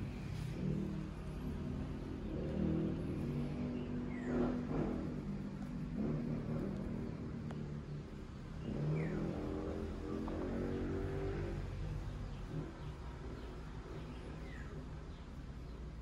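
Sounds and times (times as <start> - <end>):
cat purring: 0.0 - 14.3.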